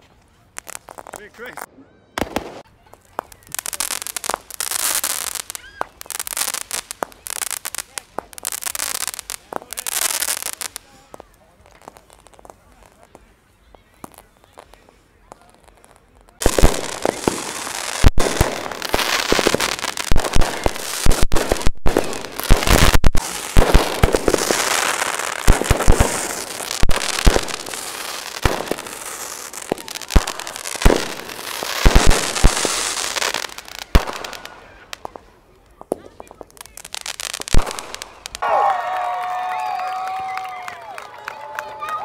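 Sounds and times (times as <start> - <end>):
fireworks bangs and crackling: 0.0 - 38.7.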